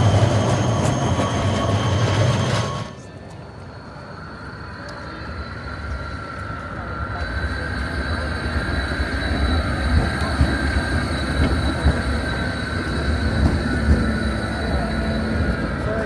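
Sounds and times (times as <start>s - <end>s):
tram wheels rumbling on rails: 0.0s - 16.0s.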